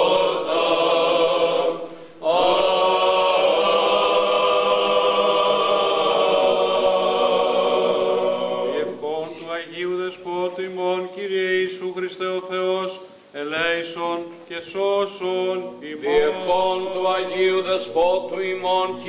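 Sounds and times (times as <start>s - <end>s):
men chanting hymn: 0.0s - 19.0s.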